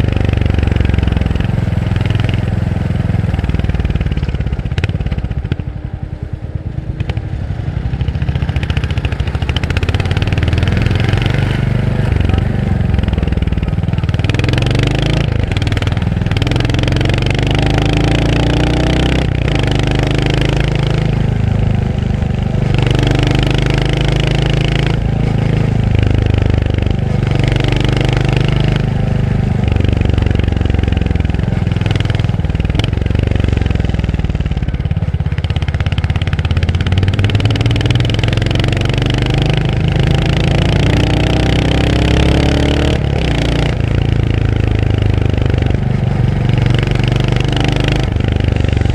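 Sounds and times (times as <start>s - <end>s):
motorcycle engine accelerating: 0.0s - 48.9s
wind and road noise: 0.0s - 48.9s.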